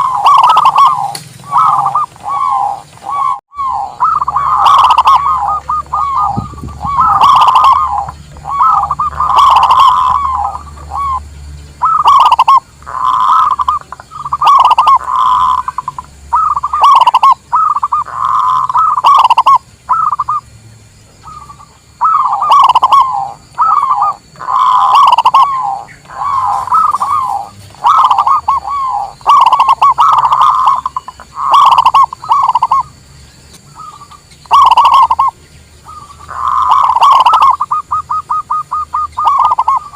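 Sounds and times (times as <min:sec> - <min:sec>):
doves cooing: 0:00.0 - 0:20.5, 0:21.1 - 0:39.9.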